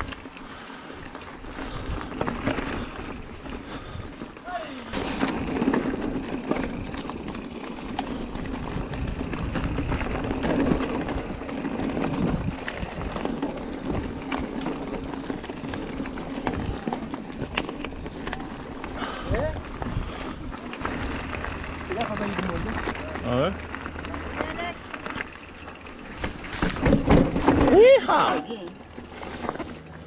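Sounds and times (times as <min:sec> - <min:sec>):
bike tyres rumbling on dirt: 0:00.0 - 0:30.0.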